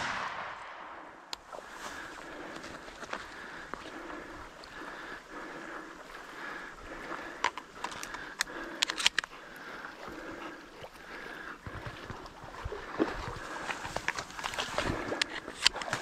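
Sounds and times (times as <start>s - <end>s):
sharp crackles and splashes: 0.0s - 16.0s
marsh grass rustling: 1.4s - 10.4s, 11.0s - 16.0s
sloshing through swamp water: 1.4s - 16.0s.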